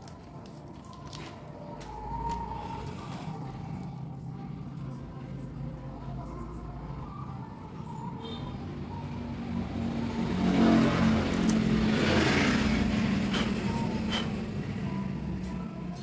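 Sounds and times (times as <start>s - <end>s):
motor vehicle passing by: 1.9s - 16.0s.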